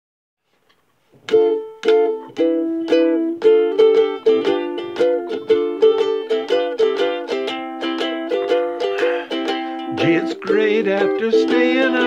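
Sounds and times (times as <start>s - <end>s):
ukulele strumming chords: 1.2s - 12.0s.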